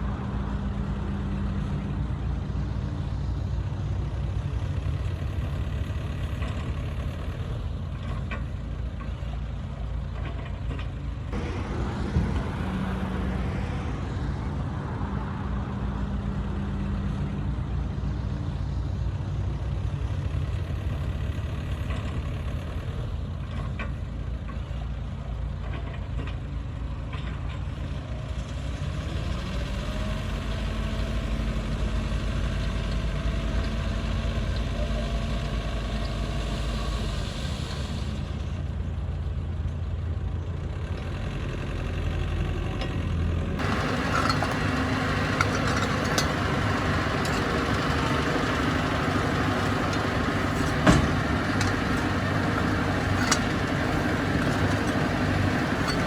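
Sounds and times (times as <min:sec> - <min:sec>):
brighter noisier engine: 0:00.0 - 0:56.0
bulldozer diesel engine: 0:00.0 - 0:56.0.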